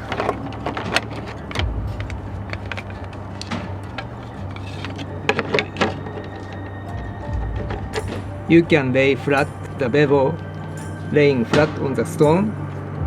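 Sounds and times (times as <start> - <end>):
quiet background music: 0.0 - 13.0.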